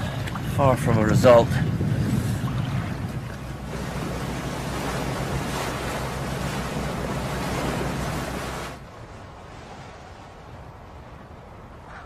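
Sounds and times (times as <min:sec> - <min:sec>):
sea waves surf: 0:00.0 - 0:12.0
wind: 0:00.0 - 0:12.0.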